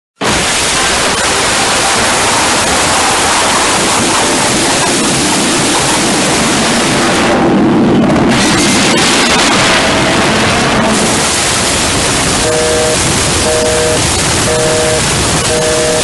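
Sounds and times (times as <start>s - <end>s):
harsh static rushing noise: 0.2s - 16.0s.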